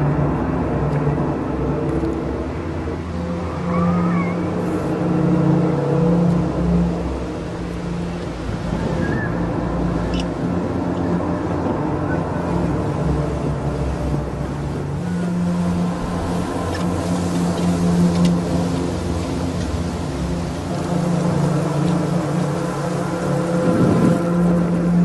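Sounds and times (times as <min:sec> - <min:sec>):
horn-like drone: 0:00.0 - 0:25.0
low rumble: 0:00.0 - 0:25.0.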